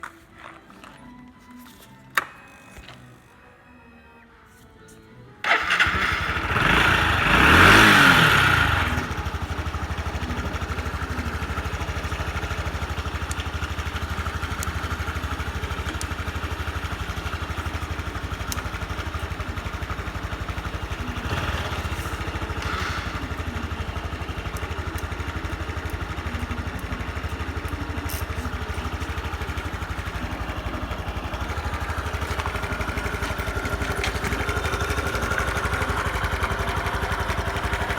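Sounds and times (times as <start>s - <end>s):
motorcycle engine starting and idling: 5.4s - 37.9s.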